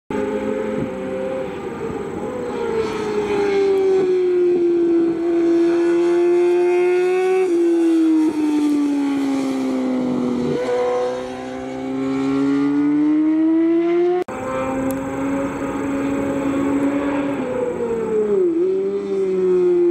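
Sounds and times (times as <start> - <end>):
race motorcycles at high revs: 0.1 - 19.9.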